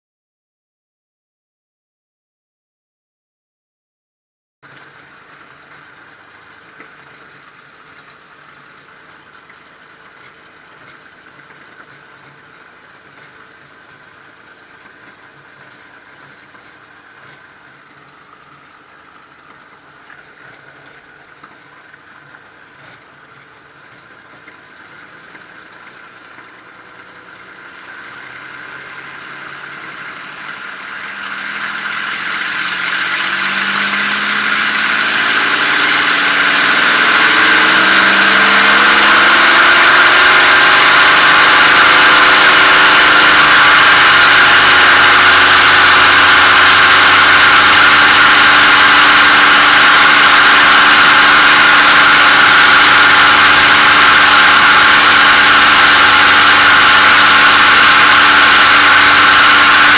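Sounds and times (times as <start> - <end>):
aircraft piston engine running: 4.7 - 59.9.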